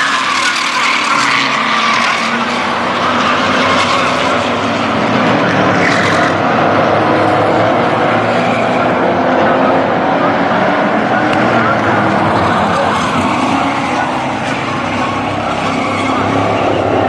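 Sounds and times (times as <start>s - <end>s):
race truck engines: 0.0s - 17.0s.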